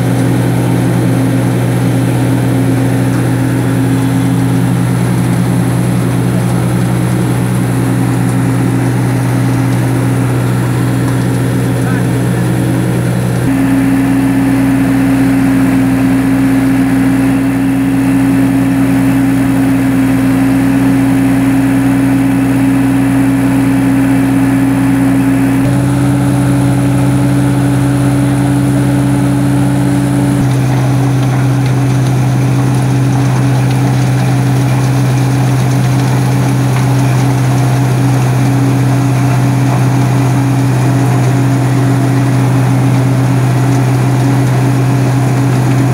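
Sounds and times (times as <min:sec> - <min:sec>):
rotor churning silage: 0:00.0 - 0:45.9
tractor engine running under load: 0:00.0 - 0:45.9.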